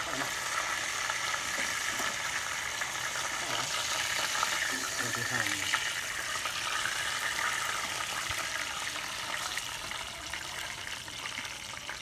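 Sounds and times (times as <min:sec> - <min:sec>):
frying in hot oil sizzling: 0:00.0 - 0:12.0.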